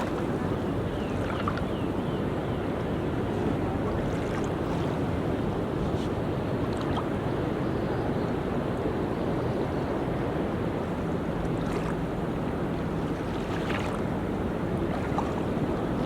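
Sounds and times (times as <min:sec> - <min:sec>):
ocean waves washing onto beach: 0:00.0 - 0:16.0
wind rumble on microphone: 0:00.0 - 0:16.0.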